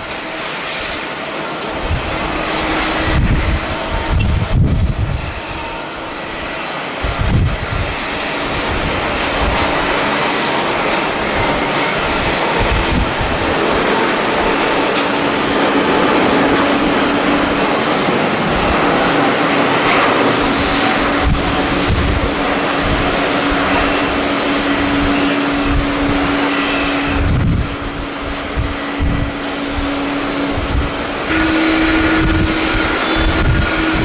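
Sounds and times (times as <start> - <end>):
jet engines roaring: 0.0 - 34.0
wind buffeting microphone: 0.0 - 34.0.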